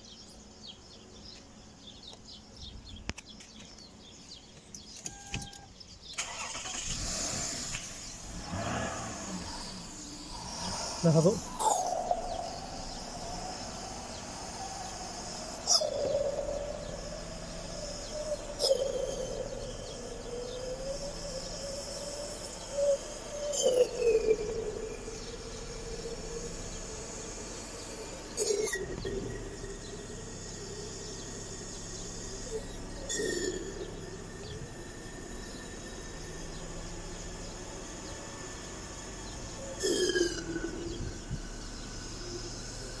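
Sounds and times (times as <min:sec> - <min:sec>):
high intake whistle: 0:05.0 - 0:43.0
car engine revving: 0:06.2 - 0:43.0.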